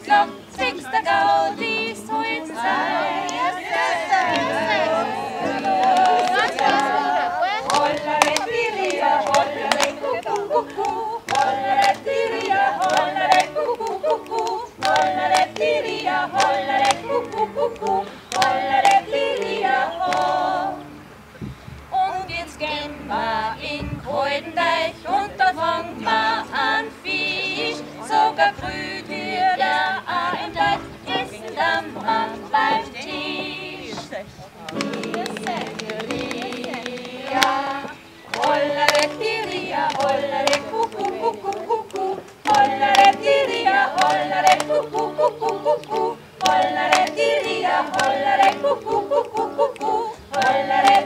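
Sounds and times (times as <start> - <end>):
acoustic guitar: 0.0 - 51.0
women singing together: 0.0 - 51.0.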